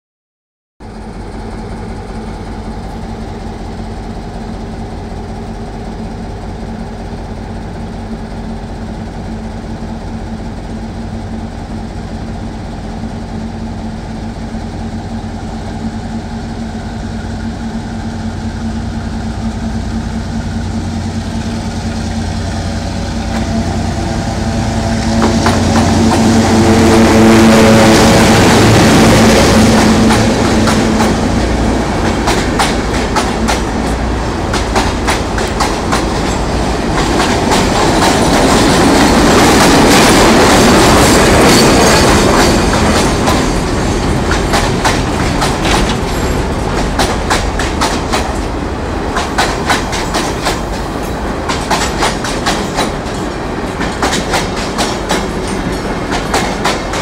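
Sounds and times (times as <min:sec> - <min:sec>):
diesel locomotive engines running: 0:00.8 - 0:57.0
freight train passing: 0:00.8 - 0:57.0.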